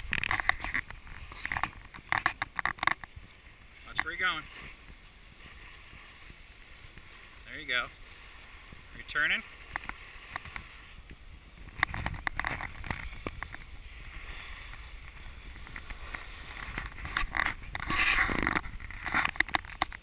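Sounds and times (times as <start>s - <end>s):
skis scraping over snow: 0.0s - 20.0s
wind rumble on microphone: 0.0s - 20.0s.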